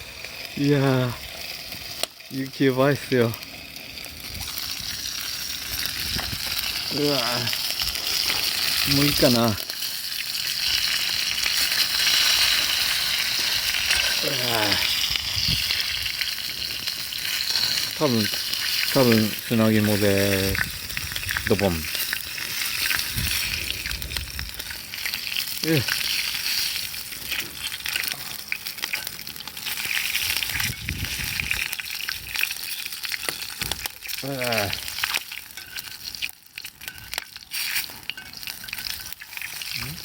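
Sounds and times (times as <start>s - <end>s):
chicken sizzling on grill: 0.0s - 40.0s
wood fire crackles: 0.0s - 40.0s.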